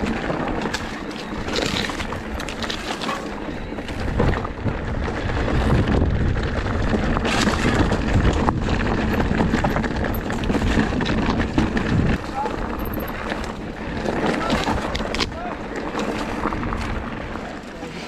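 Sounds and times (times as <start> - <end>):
wind buffeting microphone: 0.0 - 17.8
bike rattling and knocking: 0.0 - 18.0
tyres over dirt and stones: 0.0 - 18.0.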